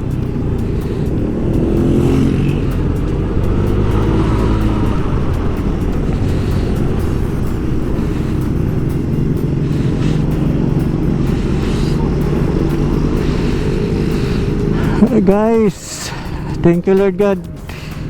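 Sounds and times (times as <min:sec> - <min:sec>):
scooter engine cruising: 0:00.0 - 0:18.0
wind and road noise: 0:00.0 - 0:18.0.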